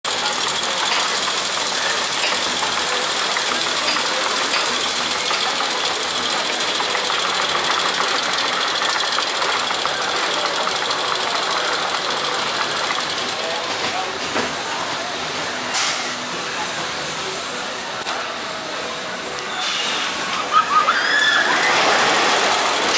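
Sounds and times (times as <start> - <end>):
ride machinery running with rattle: 0.1 - 22.9.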